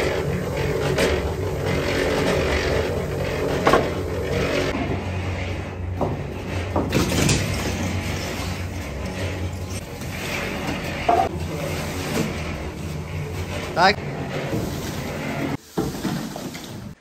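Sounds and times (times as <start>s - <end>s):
steel wheelbarrow rattling and clunking: 0.0s - 5.2s, 5.9s - 17.0s
concrete mixer humming: 0.0s - 17.0s.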